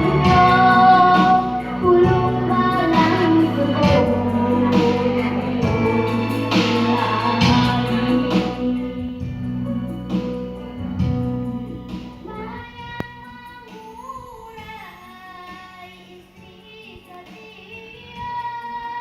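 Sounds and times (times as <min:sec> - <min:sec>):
child singing: 0:00.0 - 0:09.2, 0:12.2 - 0:19.0
instrumental accompaniment: 0:00.0 - 0:17.6.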